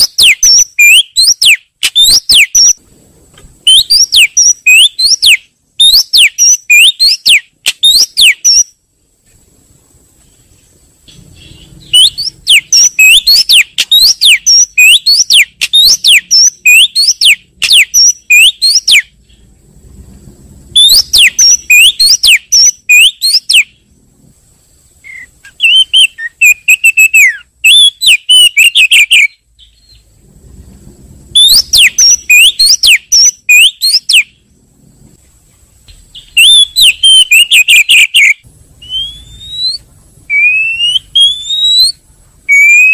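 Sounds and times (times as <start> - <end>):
bird whistled calls: 0.0 - 2.8, 3.6 - 8.8, 11.1 - 19.5, 20.7 - 23.9, 25.0 - 30.1, 31.3 - 34.5, 35.9 - 42.9
rising whistles: 0.0 - 2.8, 3.6 - 8.8, 10.3 - 24.0, 25.0 - 34.6, 36.2 - 42.9.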